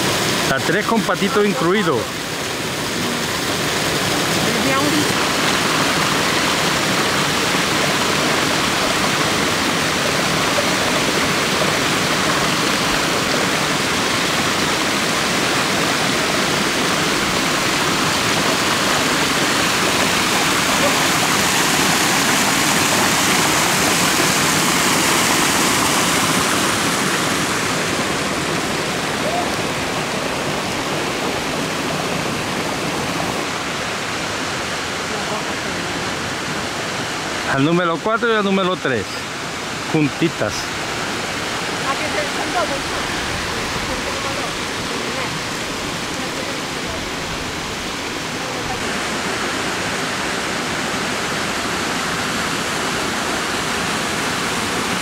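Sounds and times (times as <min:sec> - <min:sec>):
waterfall rushing into pool: 0:00.0 - 0:55.0.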